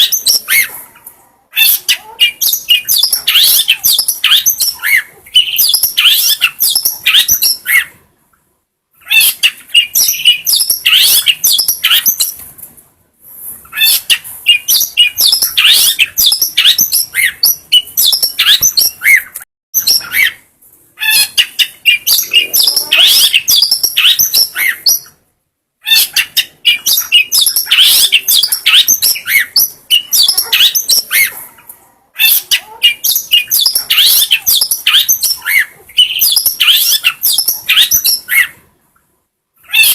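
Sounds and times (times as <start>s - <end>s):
bird chattering song: 0.0s - 0.8s, 1.6s - 7.9s, 9.0s - 12.4s, 13.7s - 20.4s, 21.0s - 25.2s, 25.8s - 31.4s, 32.2s - 38.6s.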